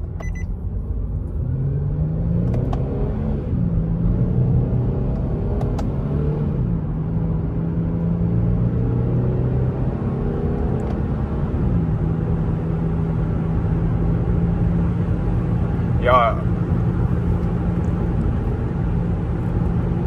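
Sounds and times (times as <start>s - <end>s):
car engine: 0.0s - 20.0s
road noise: 0.0s - 20.0s.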